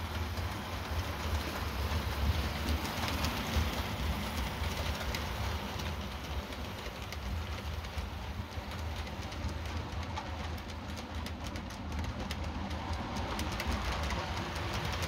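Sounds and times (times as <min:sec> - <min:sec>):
wheels clicking on rails: 0:00.0 - 0:15.0.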